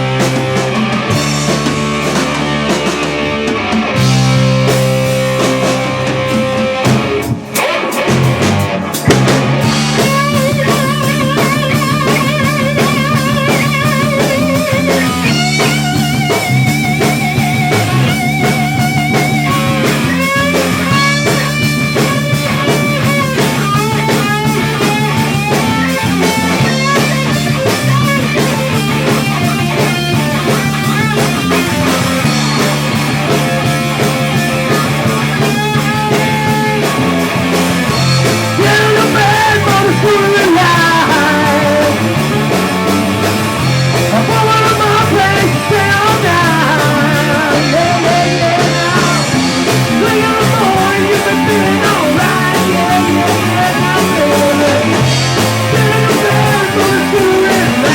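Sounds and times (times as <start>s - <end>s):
hard rock band playing: 0.0s - 57.9s
lead guitar with heavy vibrato: 0.0s - 57.9s.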